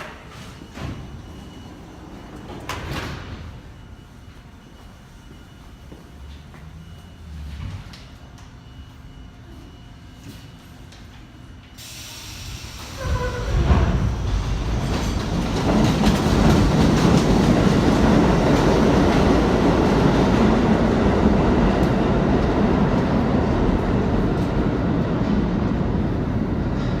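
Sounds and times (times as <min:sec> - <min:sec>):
subway train rumbling: 0:00.0 - 0:27.0.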